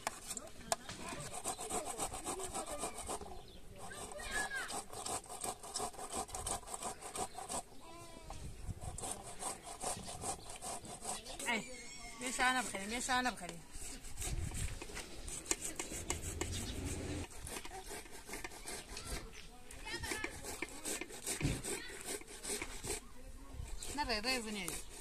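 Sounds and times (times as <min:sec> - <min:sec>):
hand saw cutting wood: 0:00.0 - 0:07.8, 0:08.6 - 0:11.6, 0:12.2 - 0:25.0.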